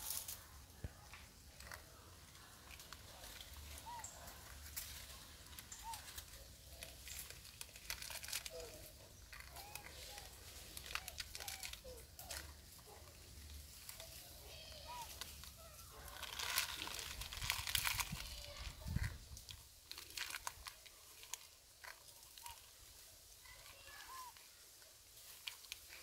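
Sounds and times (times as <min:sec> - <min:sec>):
foil packet crinkling: 0:00.0 - 0:26.0.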